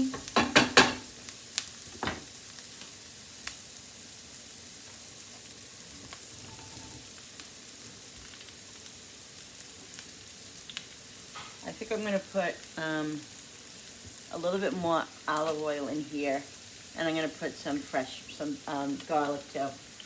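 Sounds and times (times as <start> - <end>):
mushrooms sizzling in a pan: 0.0 - 20.0.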